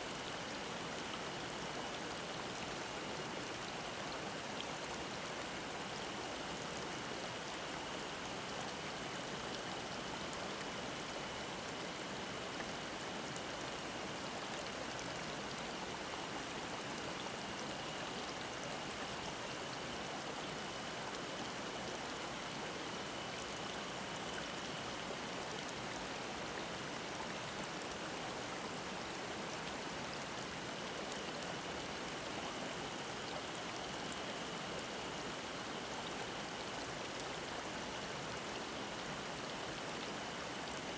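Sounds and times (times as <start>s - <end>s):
faint cicada drone: 4.8s - 40.9s.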